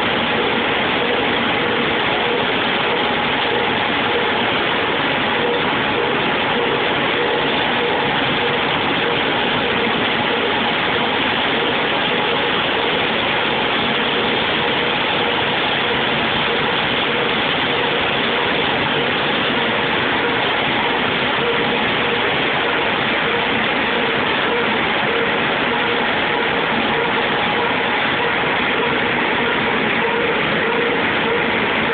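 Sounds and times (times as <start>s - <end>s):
machinery running: 0.0s - 31.9s.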